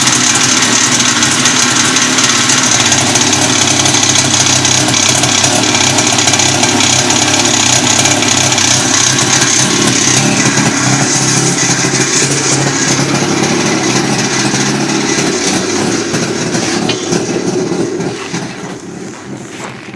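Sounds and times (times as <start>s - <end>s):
snowmobile engine running: 0.0s - 19.9s.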